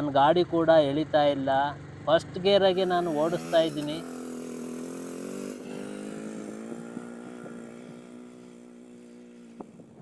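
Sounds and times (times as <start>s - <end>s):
motorcycle engine labouring uphill: 0.0s - 10.0s.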